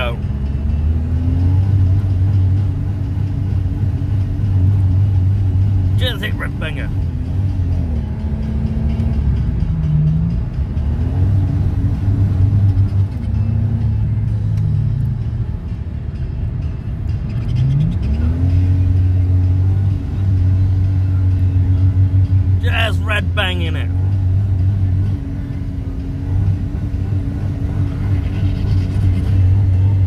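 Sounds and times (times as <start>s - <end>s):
car engine revving: 0.0s - 15.8s, 16.6s - 30.0s.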